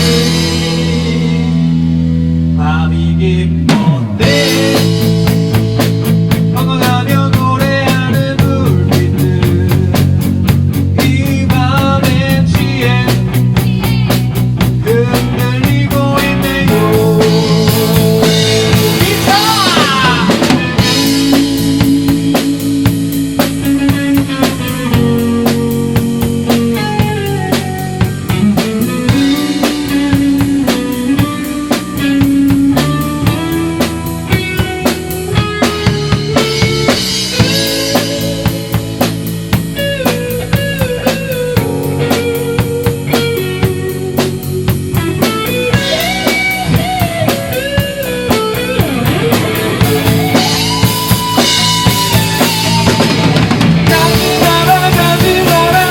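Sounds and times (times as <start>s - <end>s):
drum kit beat: 0.0s - 2.8s, 3.5s - 55.9s
bass guitar: 0.0s - 55.9s
guitar lead with bent notes: 0.0s - 55.9s.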